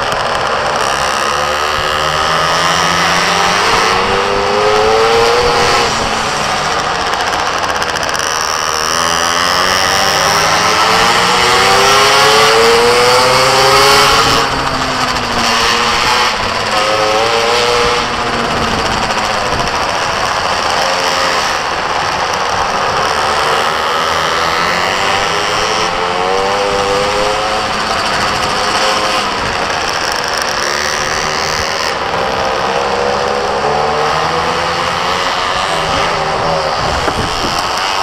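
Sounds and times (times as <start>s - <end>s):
small motorbike engine revving: 0.0s - 38.0s
wind and tyre noise: 0.0s - 38.0s.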